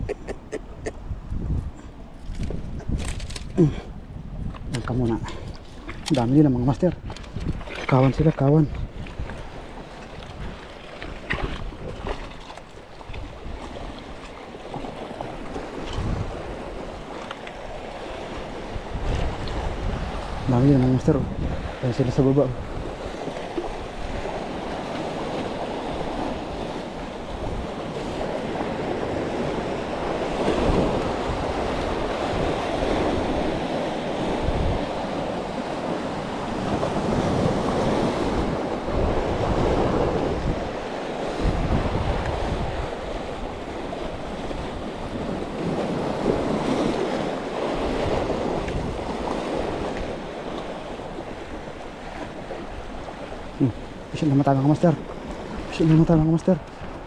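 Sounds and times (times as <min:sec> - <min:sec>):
waves breaking on rocks: 0:04.6 - 0:57.0.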